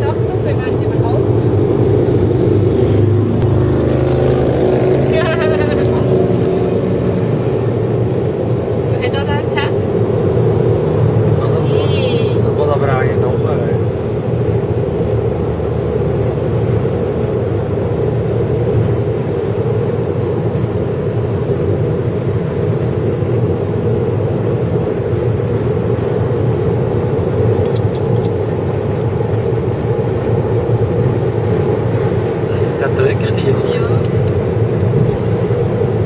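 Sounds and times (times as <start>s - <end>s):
tyre road noise: 0.0s - 36.0s
vehicle engine at highway speed: 0.0s - 36.0s.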